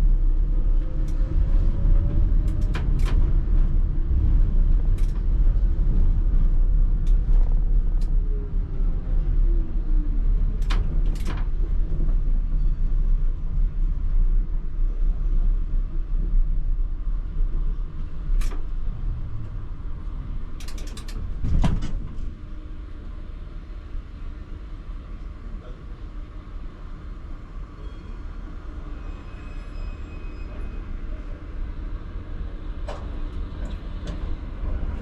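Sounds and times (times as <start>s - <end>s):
tram wheels rumbling on rails: 0.0s - 35.0s.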